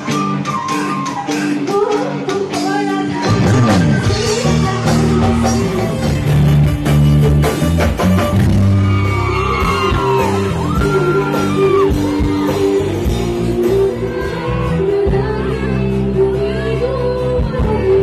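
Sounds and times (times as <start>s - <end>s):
woman singing into a microphone: 0.0s - 6.3s, 9.0s - 18.0s
live band accompaniment: 0.0s - 18.0s
long held bass notes: 3.2s - 18.0s.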